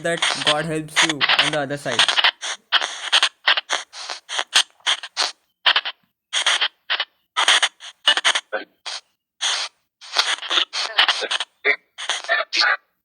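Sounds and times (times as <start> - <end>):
chopped bursts of static: 0.0 - 12.7.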